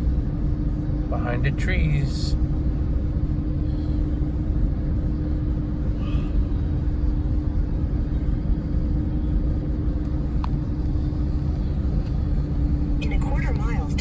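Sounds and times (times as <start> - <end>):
constant hum: 0.0 - 14.0
vehicle road rumble: 0.0 - 14.0.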